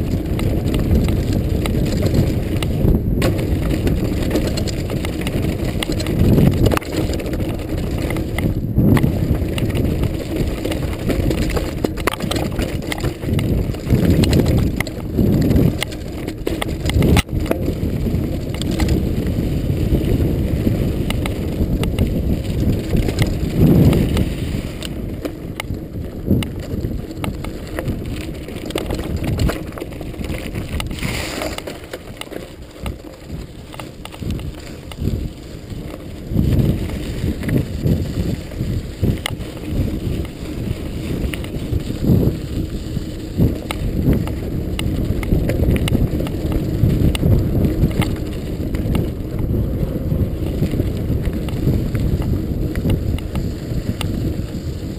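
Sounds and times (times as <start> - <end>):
bike clicks and rattles: 0.0 - 54.9
tyres rumbling over dirt: 0.0 - 54.9
wind rushing over microphone: 0.0 - 54.9.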